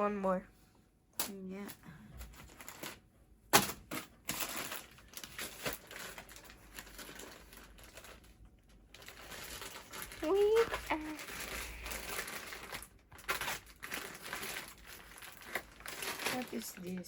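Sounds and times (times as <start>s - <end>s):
packaging rustling: 2.2s - 17.0s.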